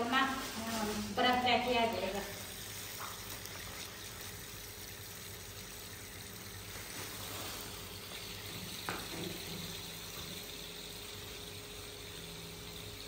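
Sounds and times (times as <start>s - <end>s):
sugar pouring into water: 0.1s - 13.0s.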